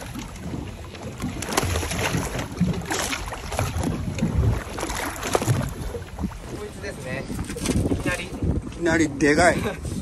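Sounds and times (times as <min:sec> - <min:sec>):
water slapping boat hull: 0:00.0 - 0:10.0
wind on microphone: 0:00.0 - 0:10.0.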